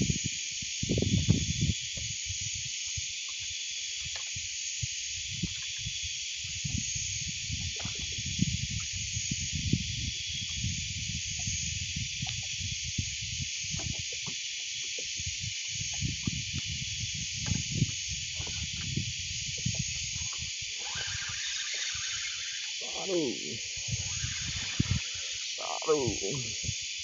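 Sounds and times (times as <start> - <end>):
steady high-pitched hiss: 0.0 - 27.0.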